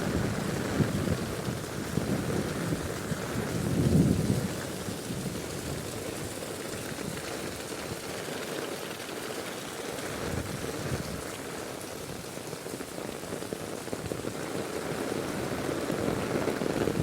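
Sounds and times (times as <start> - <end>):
heavy rain on ground: 0.0 - 17.0.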